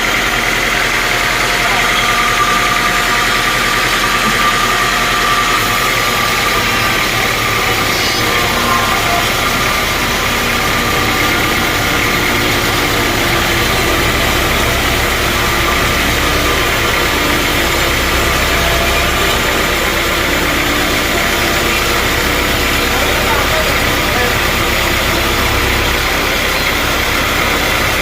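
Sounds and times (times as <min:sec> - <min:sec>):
sawmill machinery drone: 0:00.0 - 0:28.0.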